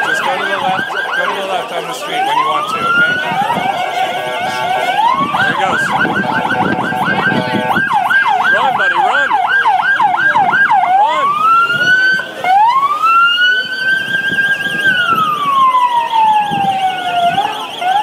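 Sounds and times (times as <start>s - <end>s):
ambulance siren wailing: 0.0s - 18.0s
crowd noise: 0.0s - 18.0s.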